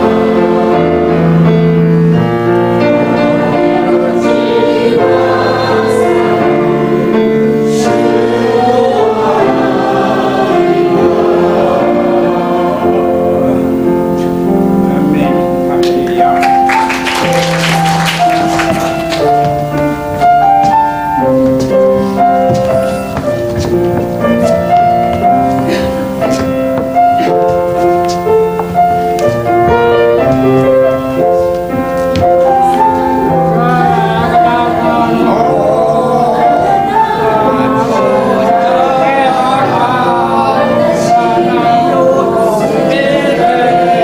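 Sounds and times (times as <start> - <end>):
voices singing: 0.0 - 23.3, 28.2 - 44.0
piano instrumental: 0.0 - 44.0.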